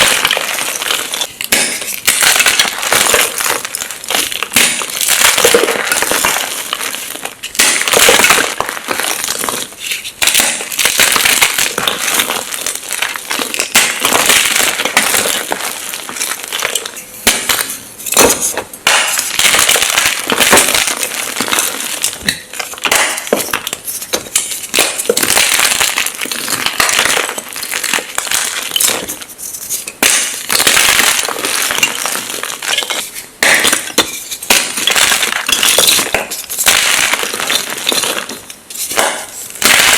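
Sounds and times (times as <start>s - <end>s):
chalk being crushed: 0.0s - 39.9s.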